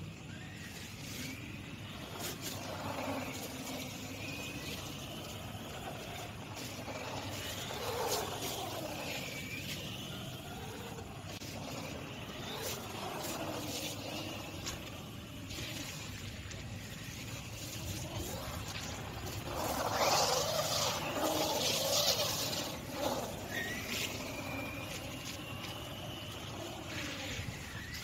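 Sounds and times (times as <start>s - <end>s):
toy car electric motor whine: 0.0s - 28.0s.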